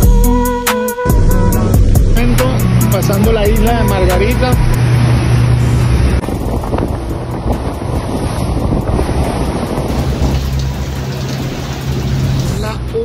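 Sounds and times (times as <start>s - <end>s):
low hum of boat engines: 0.0s - 13.0s
wake and spray along hull: 1.2s - 13.0s
wind buffeting microphone: 1.6s - 13.0s.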